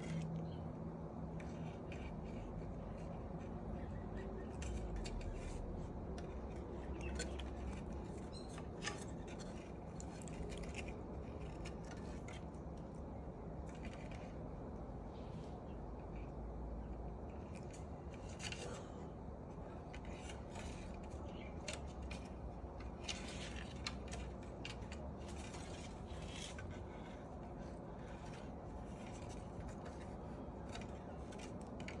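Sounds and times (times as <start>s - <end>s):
cat clawing at string rustles: 0.0s - 15.6s, 16.9s - 32.0s.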